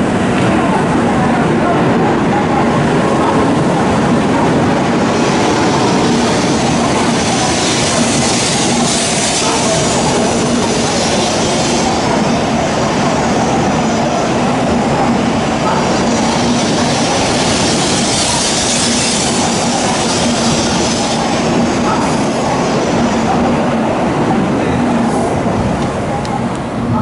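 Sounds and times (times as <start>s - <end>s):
train running with low hum: 0.0s - 27.0s.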